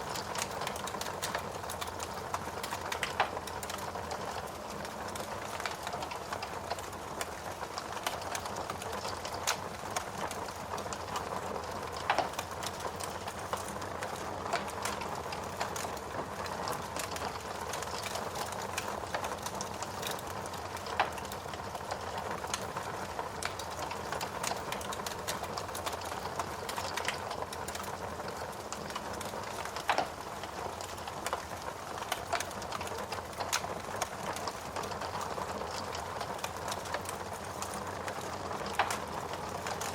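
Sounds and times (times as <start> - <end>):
fireplace logs crackling: 0.0 - 39.9.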